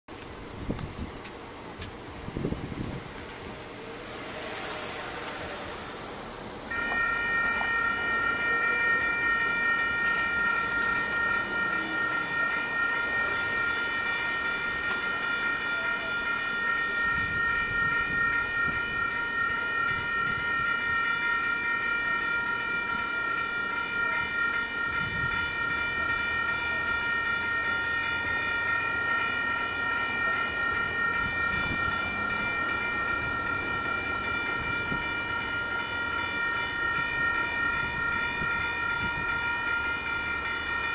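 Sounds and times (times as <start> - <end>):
railroad crossing bell ringing: 0.5 - 40.9.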